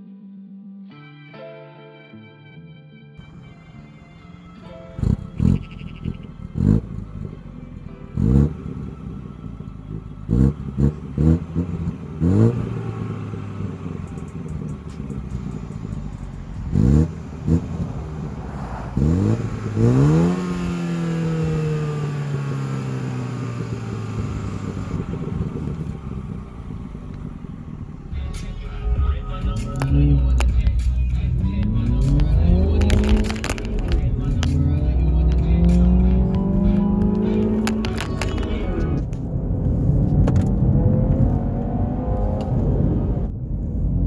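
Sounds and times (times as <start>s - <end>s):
car engine revving: 4.9s - 44.0s.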